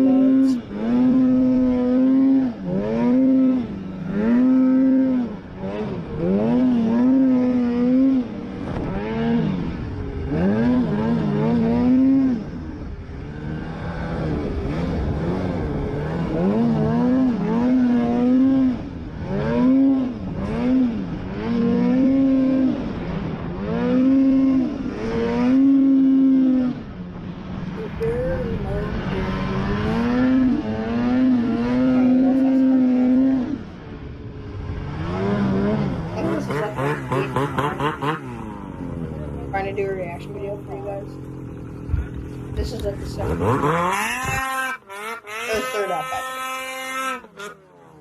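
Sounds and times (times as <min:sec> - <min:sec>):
snowmobile engine revving: 0:00.0 - 0:48.0.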